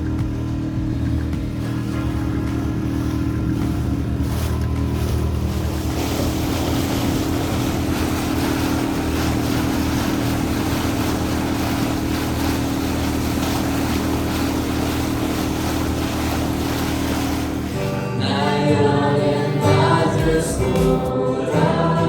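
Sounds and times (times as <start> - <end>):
wind: 0.0 - 18.6
boat engine running: 0.0 - 22.0
water noise: 0.0 - 22.0.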